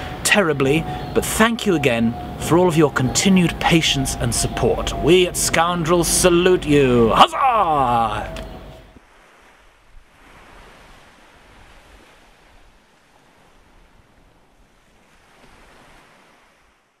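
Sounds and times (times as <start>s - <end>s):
faint ocean surf: 0.0s - 17.0s.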